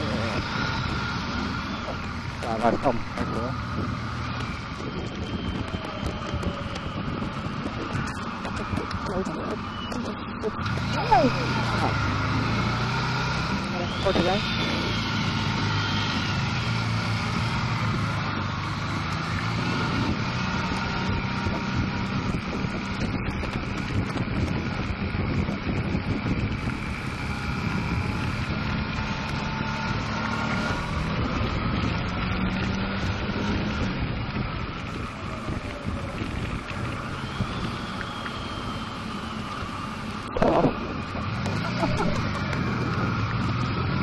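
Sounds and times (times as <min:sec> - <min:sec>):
motorcycle engine accelerating: 0:00.0 - 0:44.0
wind noise on microphone: 0:00.0 - 0:44.0.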